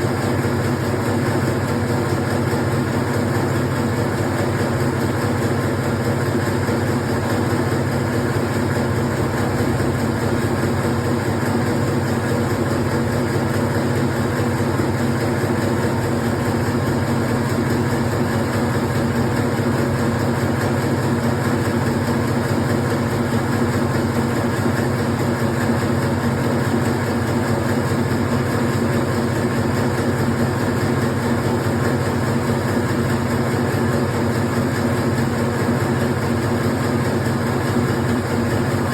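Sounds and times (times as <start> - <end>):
machine humming and clattering: 0.0 - 38.9.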